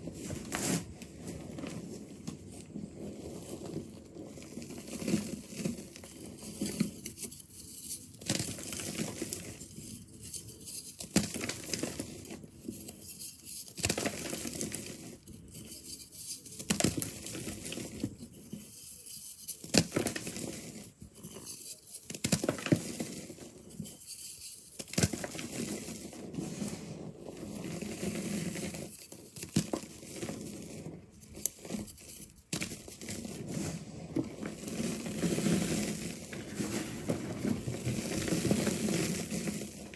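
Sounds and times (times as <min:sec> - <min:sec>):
powder blocks crunching by hand: 0:00.2 - 0:07.3, 0:08.2 - 0:13.0, 0:13.7 - 0:15.6, 0:16.6 - 0:18.8, 0:19.6 - 0:24.0, 0:24.7 - 0:39.9.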